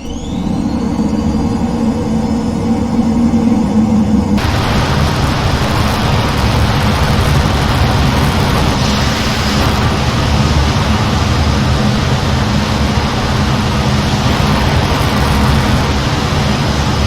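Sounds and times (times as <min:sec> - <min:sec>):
jet engine and rushing air: 0:00.0 - 0:17.0.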